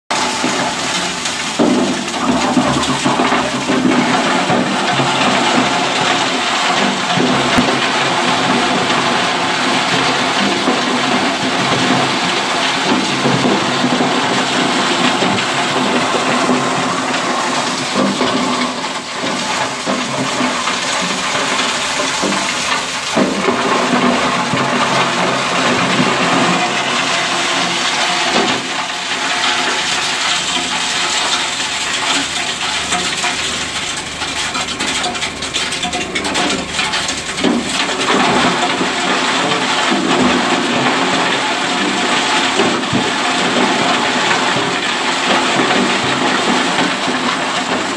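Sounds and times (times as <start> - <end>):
concrete crusher rushing noise: 0.1 - 47.9
concrete pieces clattering: 0.1 - 47.9.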